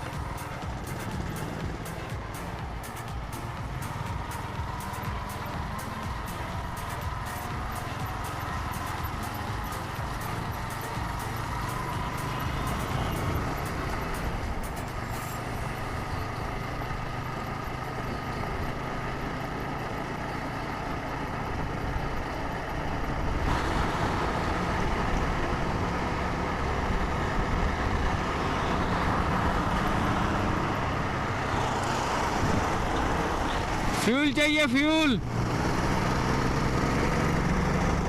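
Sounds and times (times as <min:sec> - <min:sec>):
motorcycle engine drone: 0:00.0 - 0:34.0, 0:35.2 - 0:38.0
road and traffic noise: 0:00.0 - 0:38.0.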